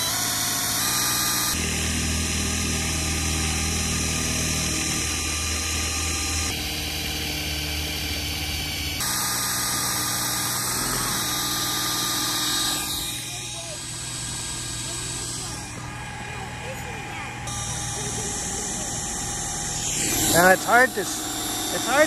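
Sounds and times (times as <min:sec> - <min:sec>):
cordless drill running under load: 0:00.0 - 0:22.0.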